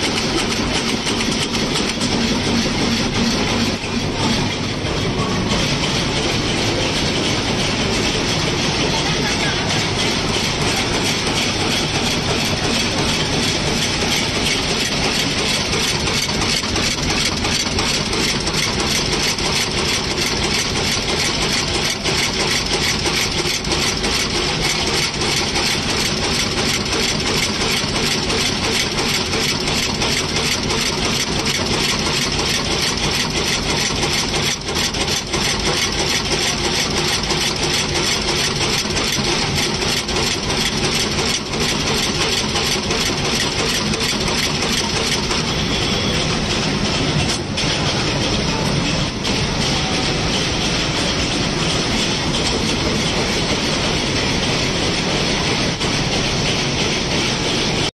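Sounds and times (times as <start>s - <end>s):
machine mechanical clatter: 0.0s - 57.9s.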